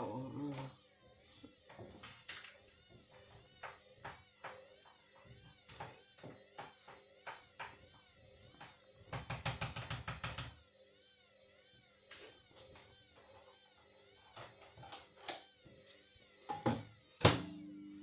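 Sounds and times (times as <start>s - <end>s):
washing machine motor whine: 0.0s - 18.0s.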